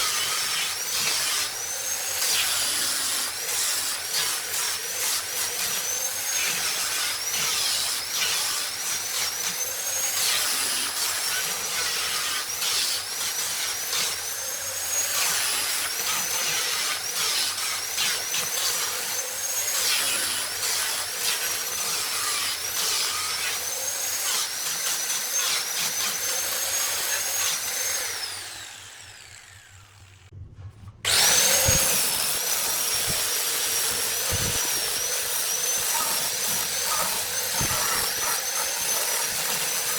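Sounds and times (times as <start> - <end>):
power tool whining cutting wood: 0.0 - 30.3, 31.0 - 39.9.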